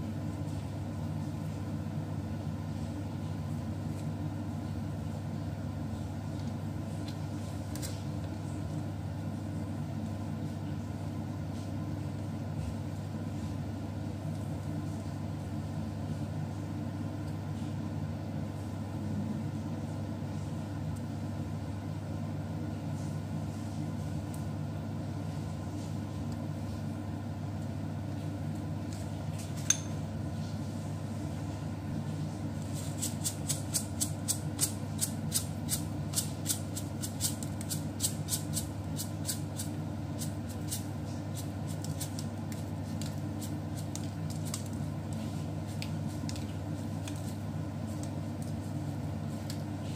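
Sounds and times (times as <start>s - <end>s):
low mechanical hum: 0.0s - 49.9s.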